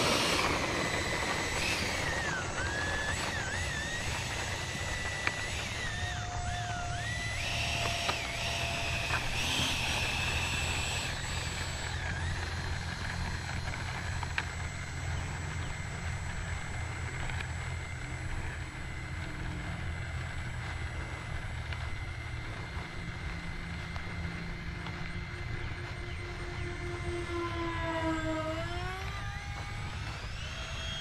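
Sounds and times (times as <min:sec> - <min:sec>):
electric ducted fan whine: 0:00.0 - 0:31.0.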